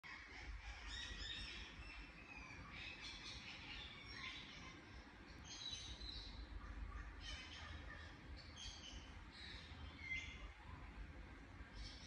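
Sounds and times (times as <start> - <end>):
low steady background hum: 0.0 - 12.0
parakeet chirping and chattering: 0.1 - 10.7.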